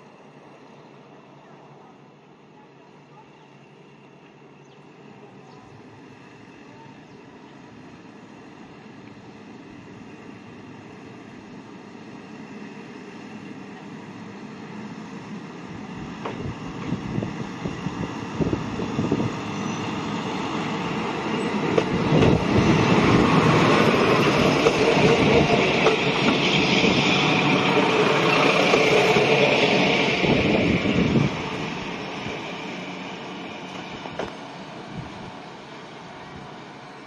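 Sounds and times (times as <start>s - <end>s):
diesel railcar engine: 0.0s - 37.0s.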